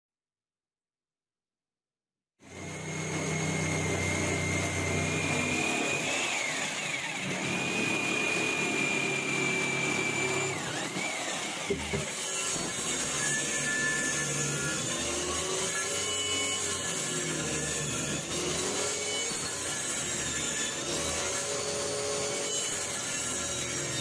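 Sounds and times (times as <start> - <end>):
jigsaw cutting wood: 2.4 - 24.0.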